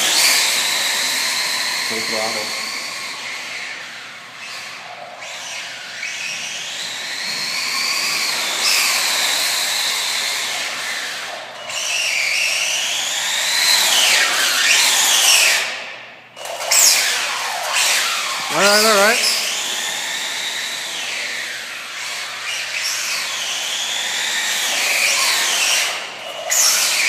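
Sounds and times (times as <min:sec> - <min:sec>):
rc truck electric motor whining: 0:00.0 - 0:15.7, 0:16.4 - 0:27.0.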